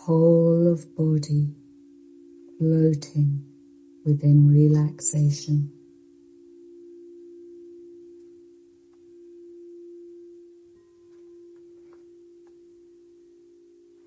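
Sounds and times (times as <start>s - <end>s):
sustained tone drone: 0.0s - 14.0s.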